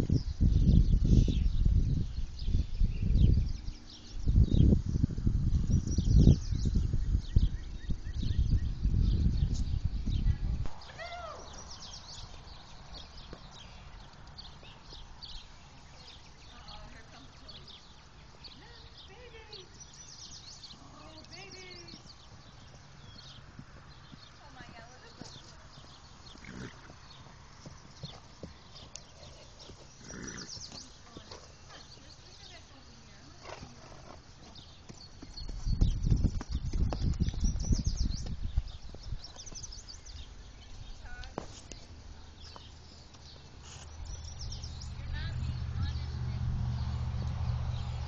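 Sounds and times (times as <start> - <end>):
small birds chirping: 0.0 - 48.0
horse hooves thudding: 7.4 - 48.0.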